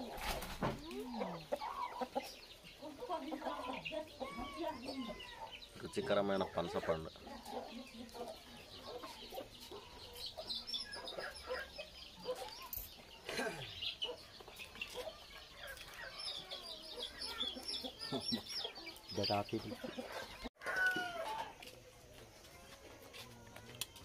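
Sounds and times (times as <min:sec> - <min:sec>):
birds clucking and chirping: 0:00.0 - 0:24.0.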